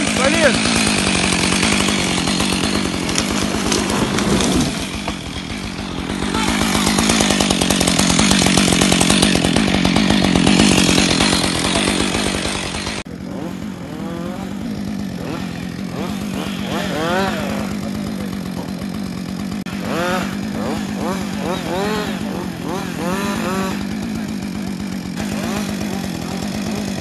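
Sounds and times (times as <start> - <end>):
chainsaw running and cutting: 0.0 - 27.0.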